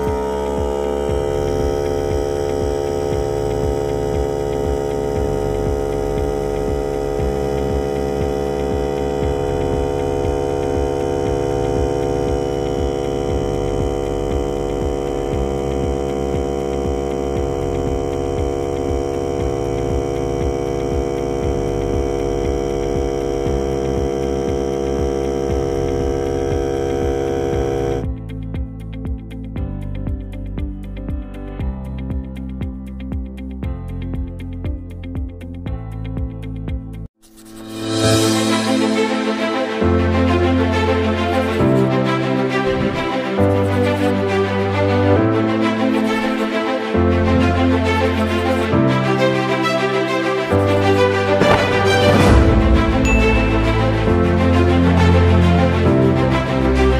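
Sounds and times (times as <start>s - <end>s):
air compressor running: 0.0s - 28.1s, 37.7s - 56.9s.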